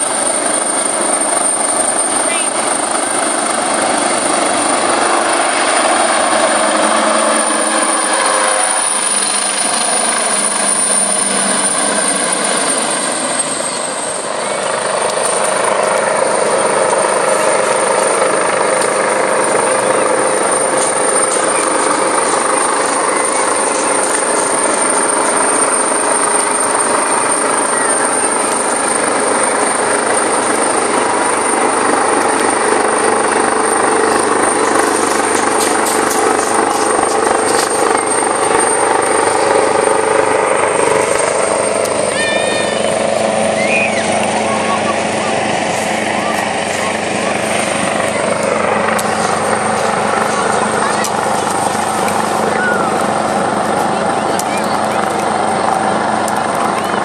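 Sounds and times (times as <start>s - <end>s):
helicopter rotor and turbine: 0.0s - 57.0s
high-pitched whine: 0.0s - 57.0s.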